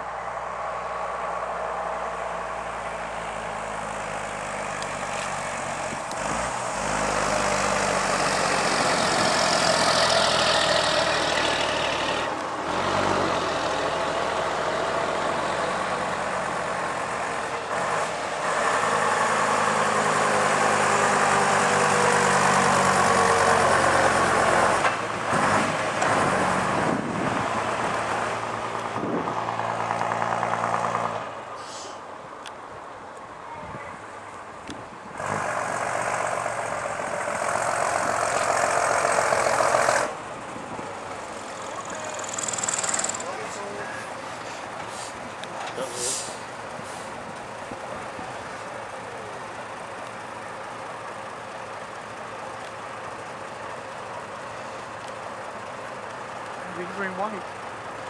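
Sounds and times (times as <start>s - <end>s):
buses driving by: 0.0s - 58.0s.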